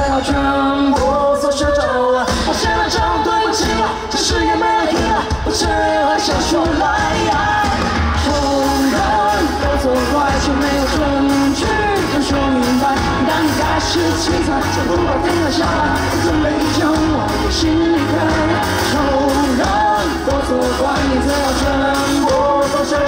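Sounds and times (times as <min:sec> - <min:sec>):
person singing lead vocal: 0:00.0 - 0:23.0
pop band playing: 0:00.0 - 0:23.0.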